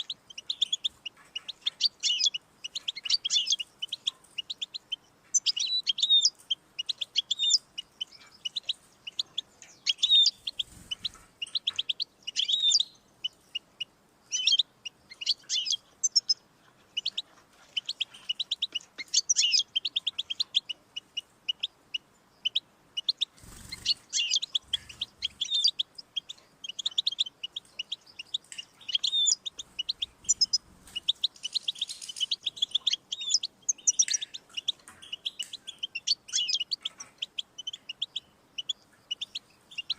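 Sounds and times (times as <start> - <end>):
finch singing twittering trills: 0.0 - 39.9.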